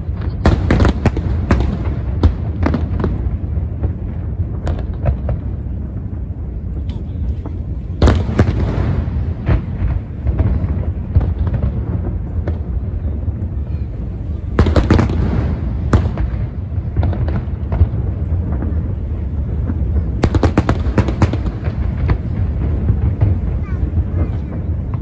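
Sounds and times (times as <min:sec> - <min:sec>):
low rumble of explosions: 0:00.0 - 0:25.0.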